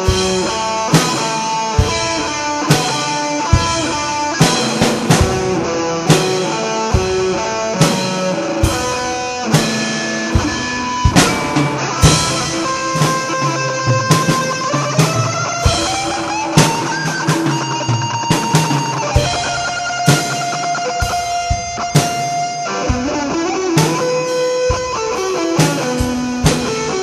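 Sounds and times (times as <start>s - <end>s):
drum kit hits: 0.0s - 27.0s
electric guitar: 0.0s - 27.0s.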